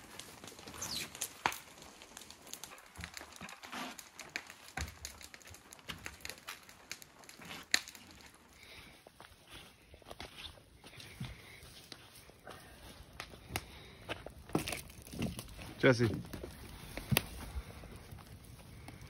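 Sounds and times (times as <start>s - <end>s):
tar paper crinkling and rustling: 0.0s - 19.0s.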